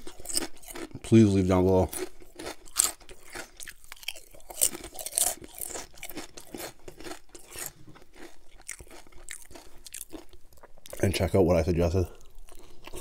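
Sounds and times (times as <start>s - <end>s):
potato chip crunching: 0.0s - 11.3s.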